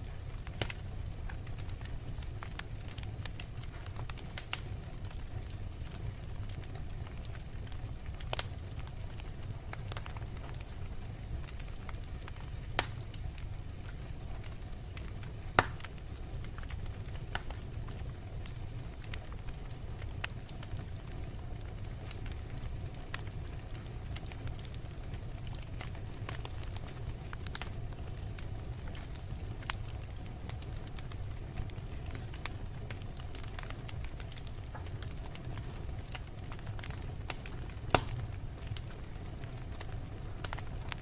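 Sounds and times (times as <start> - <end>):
logs crackling and popping: 0.0 - 41.0
low rumble of flames: 0.0 - 41.0.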